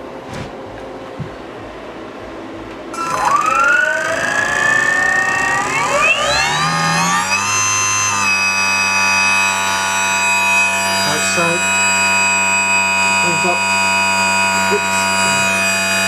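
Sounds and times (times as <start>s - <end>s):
electric motor whine: 2.5s - 16.0s.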